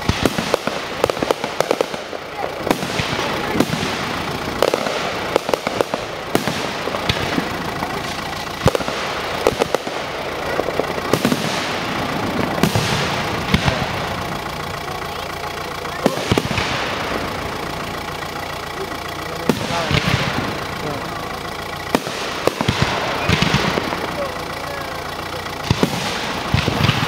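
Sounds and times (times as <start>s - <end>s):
firework bangs: 0.0s - 27.0s.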